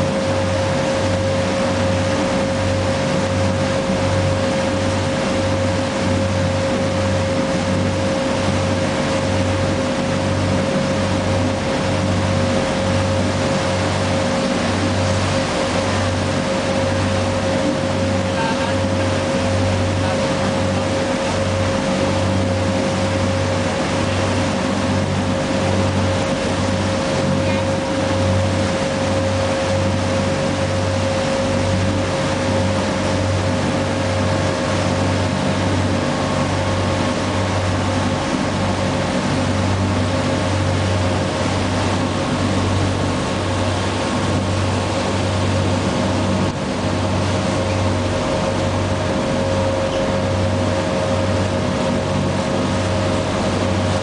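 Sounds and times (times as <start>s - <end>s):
boat engine throbbing: 0.0s - 54.0s
churning wake rushing: 0.0s - 54.0s.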